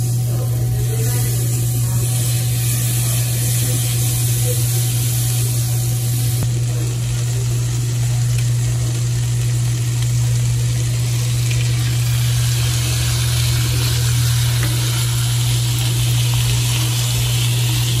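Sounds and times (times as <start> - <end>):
beef sizzling in frying pan: 0.0 - 18.0
steady low hum: 0.0 - 18.0.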